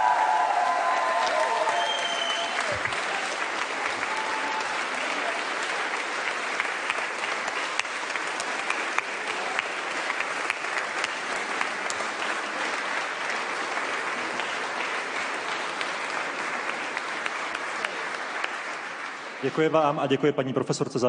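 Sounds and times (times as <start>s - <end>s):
crowd applause: 0.0s - 20.2s.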